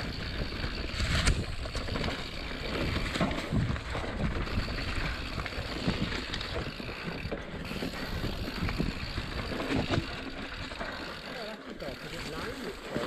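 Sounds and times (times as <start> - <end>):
bike rattling over bumps: 0.0 - 13.0
bike tyres rumbling on dirt: 0.0 - 13.0.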